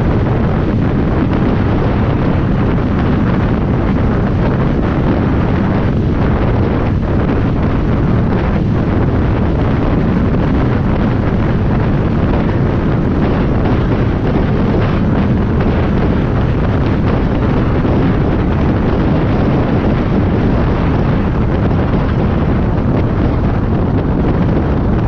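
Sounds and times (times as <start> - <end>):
vehicle engine drone: 0.0 - 25.0
wind buffeting microphone: 0.0 - 25.0.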